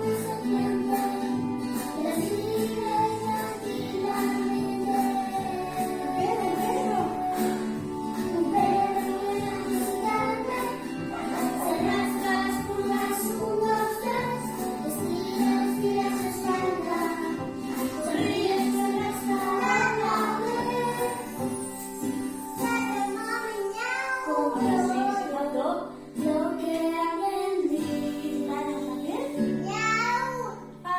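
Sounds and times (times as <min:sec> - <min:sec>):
song with singing and beat: 0:00.0 - 0:29.5.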